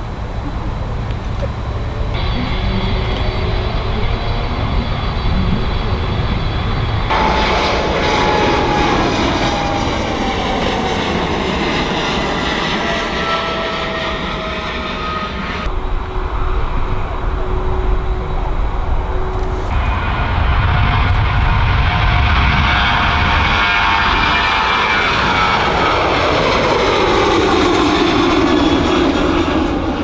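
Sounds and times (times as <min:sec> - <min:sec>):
jet engines running loud: 0:00.0 - 0:30.0.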